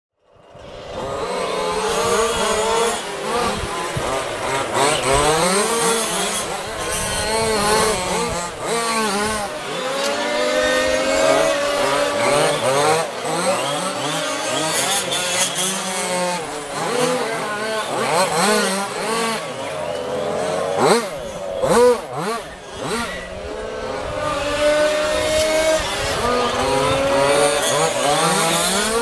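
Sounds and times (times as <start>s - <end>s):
small two-stroke engines revving: 0.2s - 29.0s.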